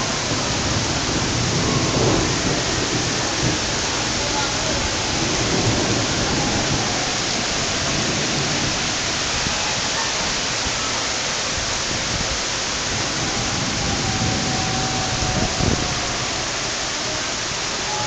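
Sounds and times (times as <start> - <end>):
heavy rain pouring on a street: 0.0 - 18.0.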